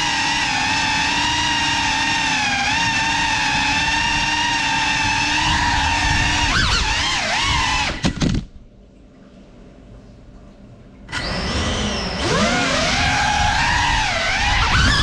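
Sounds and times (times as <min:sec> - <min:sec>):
drone motors whining: 0:00.0 - 0:08.4, 0:11.1 - 0:15.0.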